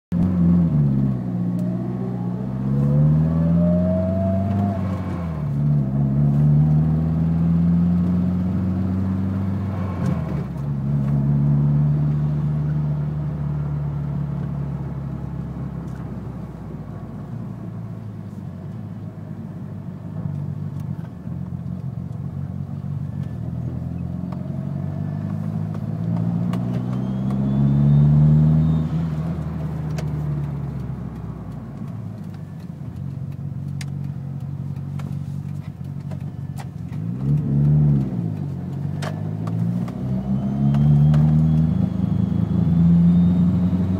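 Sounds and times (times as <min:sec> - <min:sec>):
car engine revving: 0:00.2 - 0:17.8, 0:23.5 - 0:32.4, 0:33.3 - 0:43.9.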